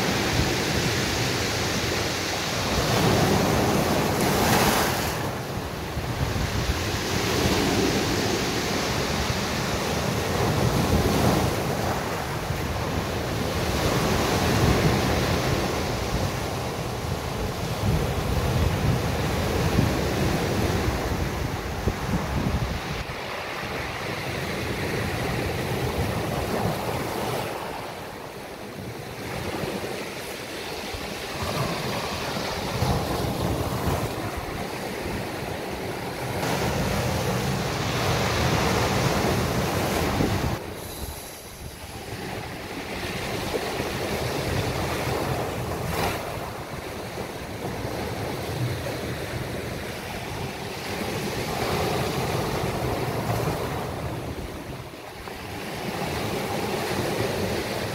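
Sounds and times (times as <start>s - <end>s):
sea waves breaking on beach: 0.0s - 57.9s.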